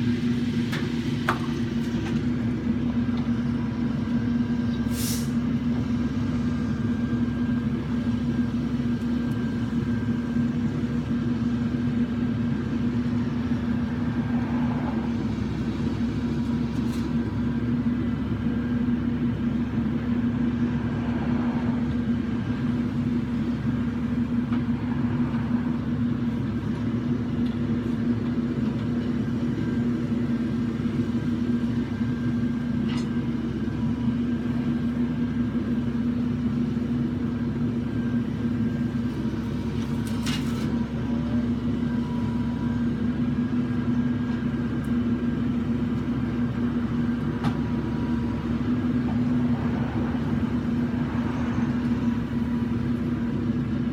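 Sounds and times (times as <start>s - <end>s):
truck engine running: 0.0s - 53.9s.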